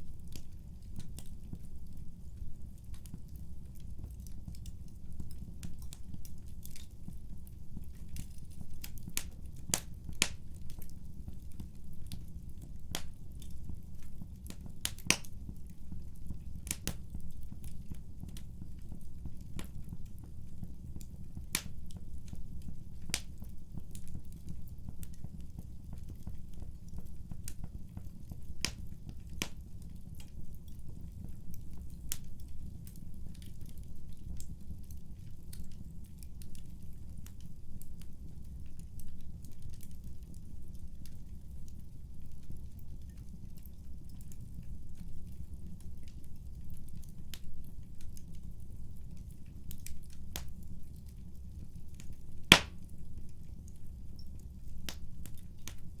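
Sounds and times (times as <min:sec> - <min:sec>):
fire low rumble: 0:00.0 - 0:56.0
wood fire popping and snapping: 0:00.0 - 0:56.0.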